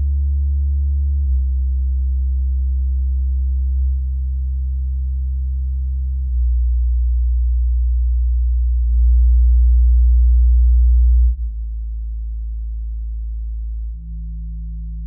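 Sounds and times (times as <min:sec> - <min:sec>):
low sine-wave tones from speakers: 0:00.0 - 0:15.0.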